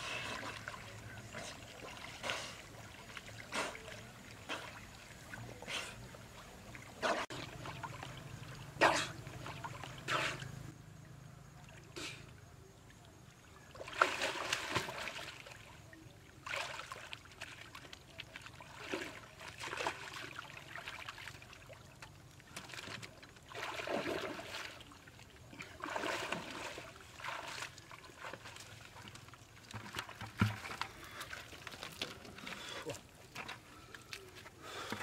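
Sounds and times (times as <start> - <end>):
water splashing and sloshing: 0.0 - 35.0.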